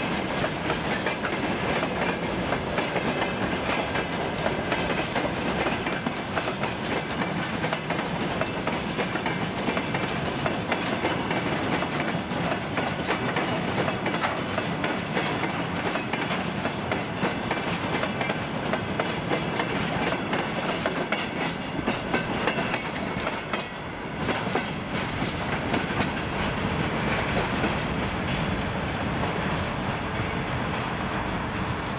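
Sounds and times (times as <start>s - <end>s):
train wheels clattering over rail joints: 0.0s - 31.9s.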